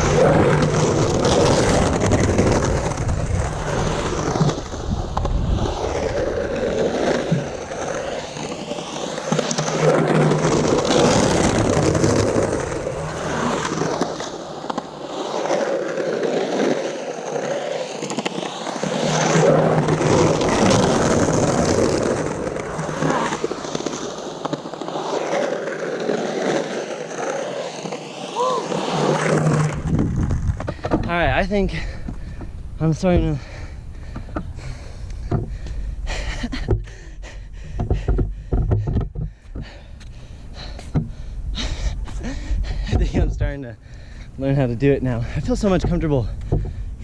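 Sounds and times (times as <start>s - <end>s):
skateboard wheels rolling on concrete: 0.0s - 47.0s.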